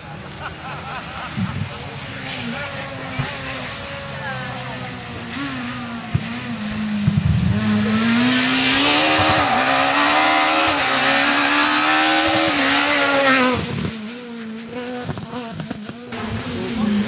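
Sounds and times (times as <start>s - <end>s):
rally car engine at high revs: 1.1s - 17.0s.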